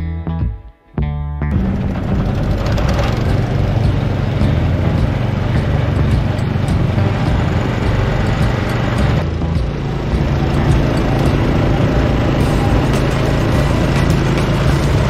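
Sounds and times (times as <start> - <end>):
juice crushing machine drone: 1.5 - 15.0.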